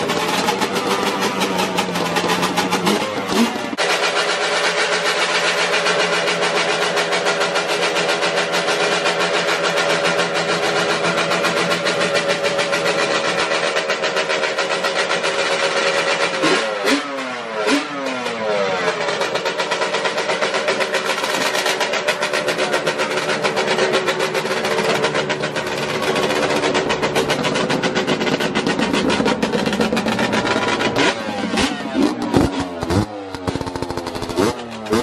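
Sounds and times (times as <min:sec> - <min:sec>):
two-stroke engine revving: 0:00.0 - 0:35.0.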